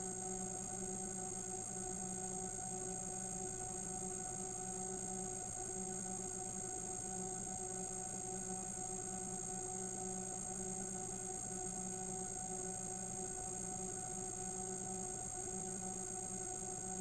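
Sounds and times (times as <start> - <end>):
electronic hum of held tones: 0.0 - 17.0.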